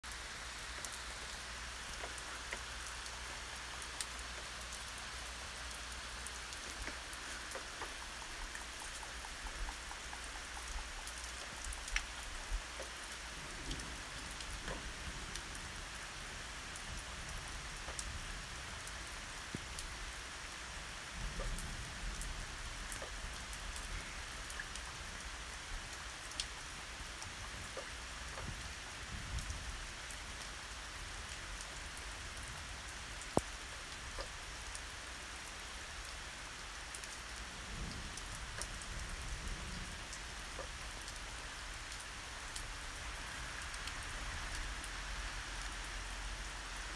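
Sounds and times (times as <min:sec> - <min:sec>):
raindrops ticking: 0:00.0 - 0:46.9
steady rain falling: 0:00.0 - 0:46.9.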